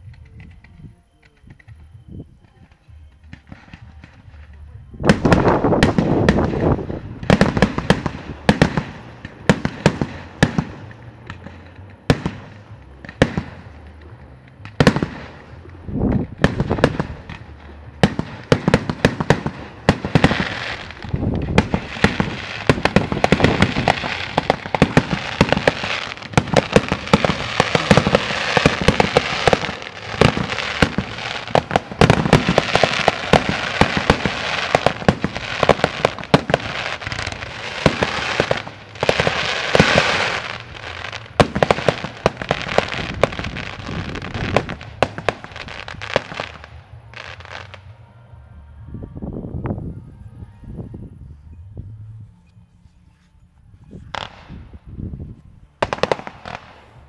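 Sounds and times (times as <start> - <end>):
fireworks bangs: 0.0 - 48.0, 54.1 - 54.9, 55.8 - 57.0
fireworks crackling: 0.0 - 48.0, 53.9 - 57.0.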